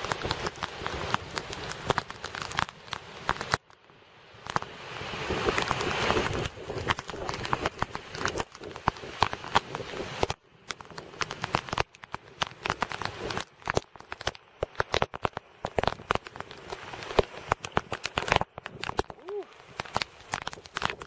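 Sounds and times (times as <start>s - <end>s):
raindrops on hard surface: 0.0s - 21.0s.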